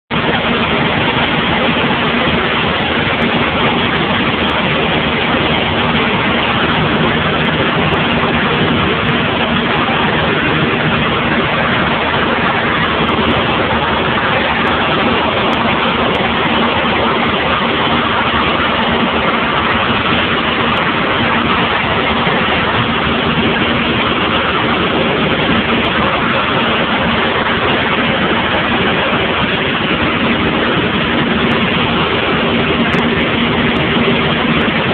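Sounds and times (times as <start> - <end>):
light aircraft engine droning: 0.1 - 34.9.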